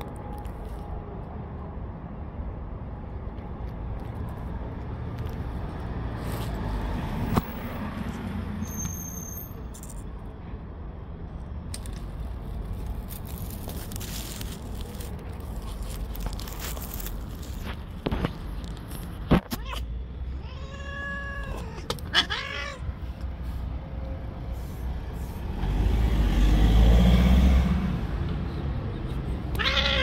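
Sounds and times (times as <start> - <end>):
low rumble of street traffic: 0.0 - 30.0.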